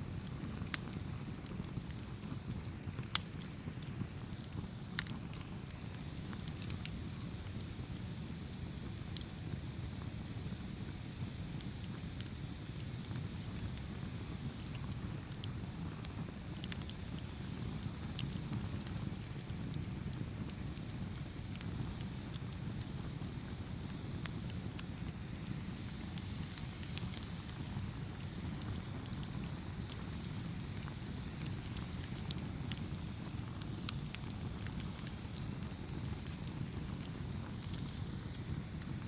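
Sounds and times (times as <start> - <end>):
campfire flames rumbling: 0.0 - 39.0
fire popping and crackling: 0.0 - 39.0.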